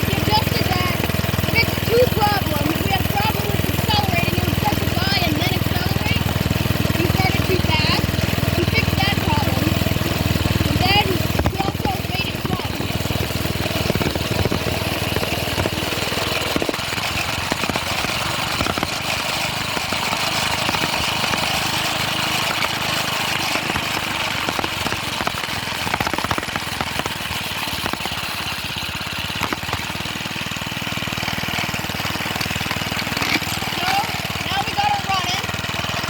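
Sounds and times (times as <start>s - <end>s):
small engine chugging: 0.0s - 36.0s.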